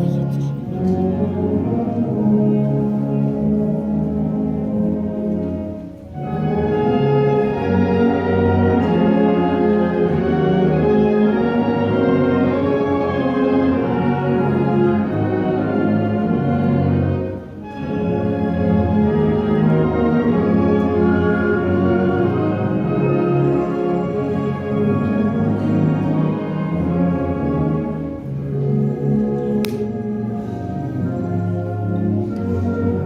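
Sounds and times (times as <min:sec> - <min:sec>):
brass sustained chords: 0:00.0 - 0:33.0.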